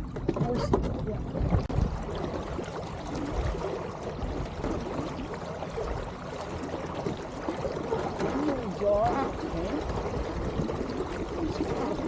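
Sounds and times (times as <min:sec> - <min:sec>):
water trickling along boat hull: 0:00.0 - 0:12.0.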